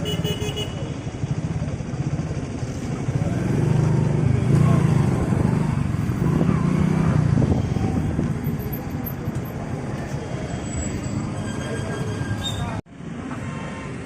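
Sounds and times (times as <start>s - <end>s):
motorcycle engine rumbling: 0.0s - 13.3s.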